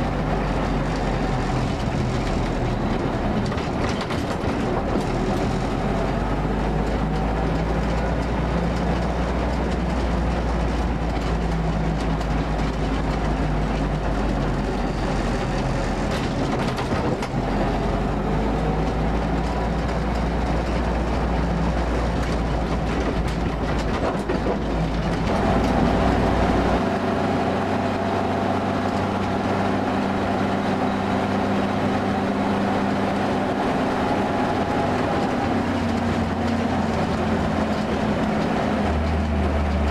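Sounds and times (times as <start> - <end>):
jeep engine running: 0.0 - 39.9
road and wind noise: 0.0 - 39.9
vehicle rattle: 0.0 - 39.9.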